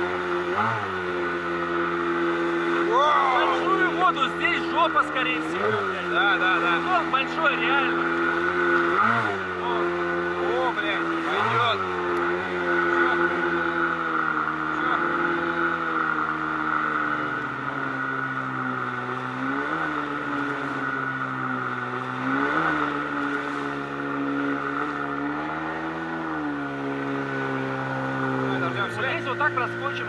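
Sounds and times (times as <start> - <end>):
outboard motor at high revs: 0.0 - 30.0.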